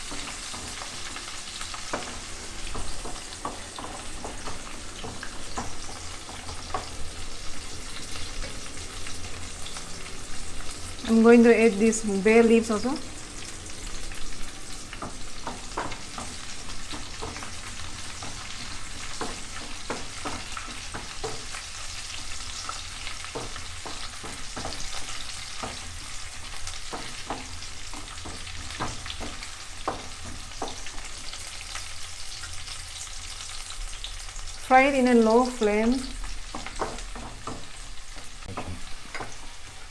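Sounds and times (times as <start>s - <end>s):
onions sizzling in hot oil: 0.0s - 39.9s
utensil stirring in a pan: 0.0s - 39.9s.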